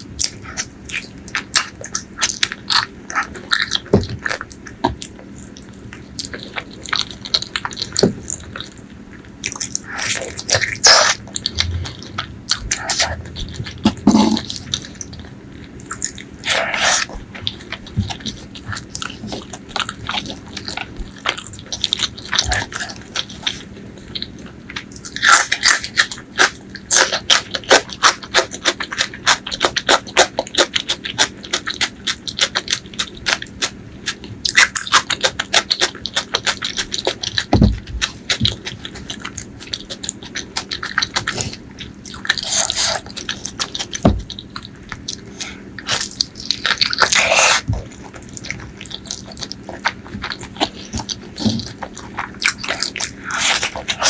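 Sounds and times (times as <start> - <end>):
wet chewing and lip smacking: 0.0 - 54.0.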